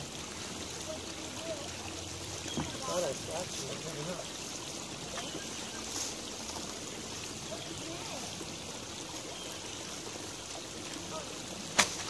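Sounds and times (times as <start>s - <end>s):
creek trickling: 0.0s - 12.0s.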